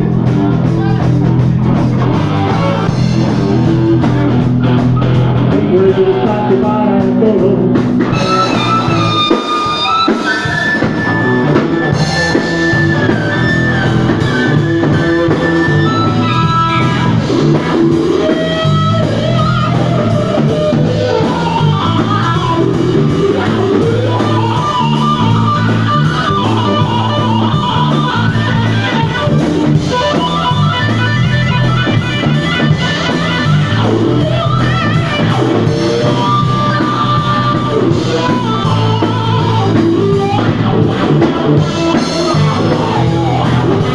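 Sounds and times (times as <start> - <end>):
bass guitar: 0.0 - 43.9
drum kit: 0.0 - 43.9
electric guitar lead: 0.0 - 43.9.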